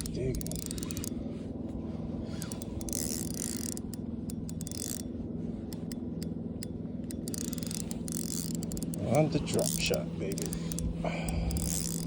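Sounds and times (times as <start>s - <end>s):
fishing reel clicking: 0.0s - 1.2s, 2.2s - 5.1s, 5.7s - 12.0s
steady low hum: 0.0s - 12.0s.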